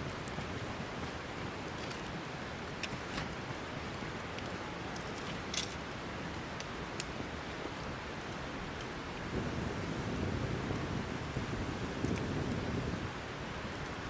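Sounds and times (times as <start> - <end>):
campfire crackling and popping: 0.0 - 14.0
steady rushing hiss: 0.0 - 14.0.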